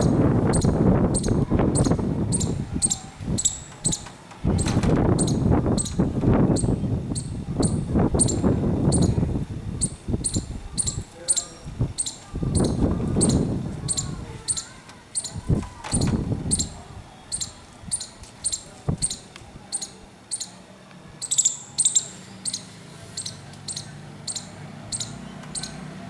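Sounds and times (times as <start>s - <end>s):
squirrel clicking alarm call: 0.0s - 20.6s, 21.2s - 26.0s.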